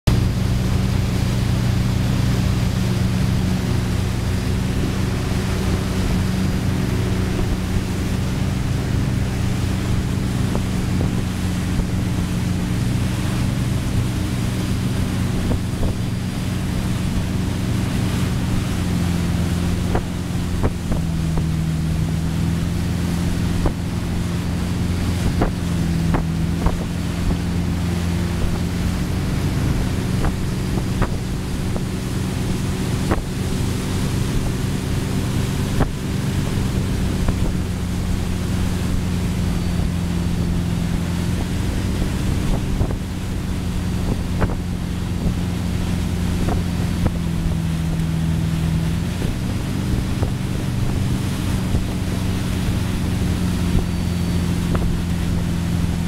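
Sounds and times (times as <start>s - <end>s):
boat engine running: 0.0s - 56.0s
rush of boat wake: 0.0s - 56.0s
wind on microphone: 0.1s - 56.0s.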